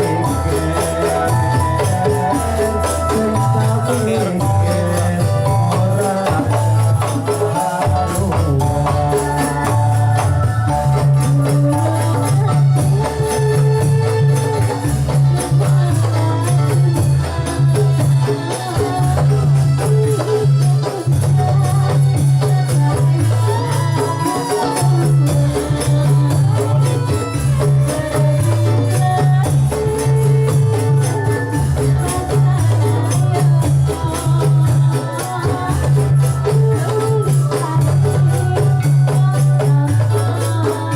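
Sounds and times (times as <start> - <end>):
drums: 0.0 - 40.9
jingling percussion: 0.0 - 40.9.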